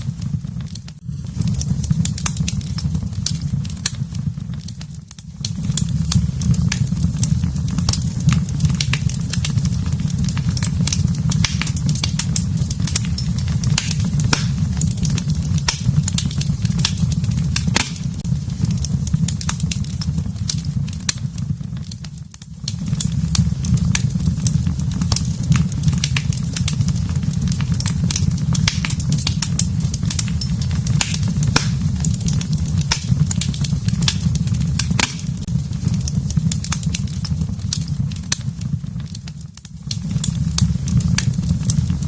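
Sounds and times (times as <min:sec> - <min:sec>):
low rumble of flames: 0:00.0 - 0:42.0
wood crackling and popping: 0:00.0 - 0:42.0.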